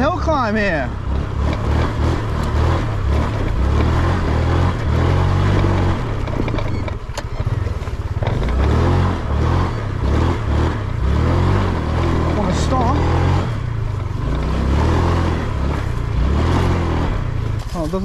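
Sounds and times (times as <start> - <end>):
scooter engine under load: 0.0 - 18.0.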